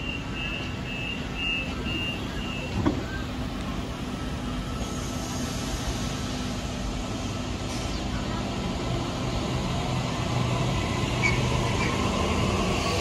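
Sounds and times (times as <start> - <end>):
train rumble and hum: 0.0 - 13.0.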